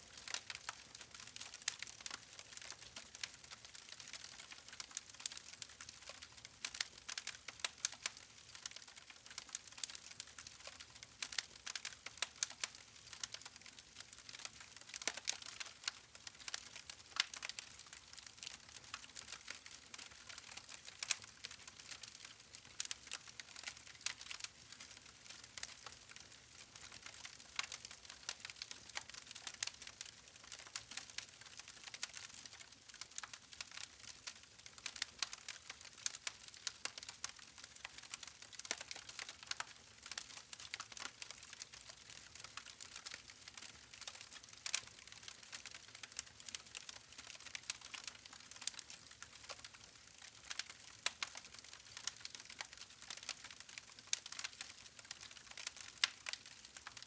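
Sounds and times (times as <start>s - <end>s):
wood fire crackling: 0.1s - 57.0s.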